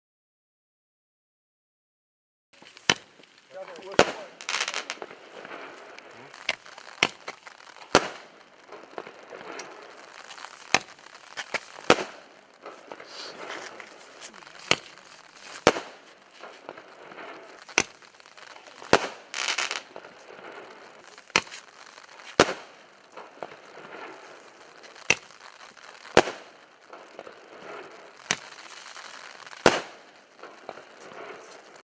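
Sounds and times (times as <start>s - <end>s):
firework bangs: 2.6s - 31.8s
firework crackling: 2.6s - 31.9s.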